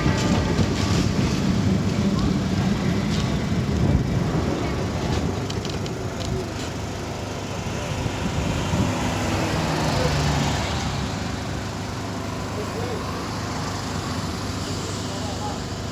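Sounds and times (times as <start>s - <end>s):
tram rumbling on rails: 0.0s - 15.9s.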